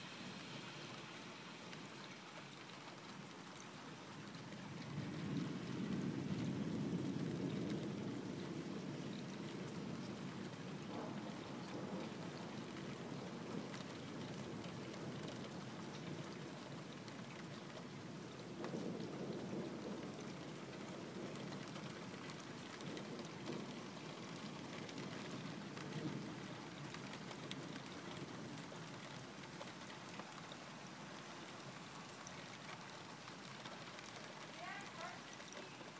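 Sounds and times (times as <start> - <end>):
steady rain: 0.0 - 35.9
distant thunder rumble: 4.4 - 35.9.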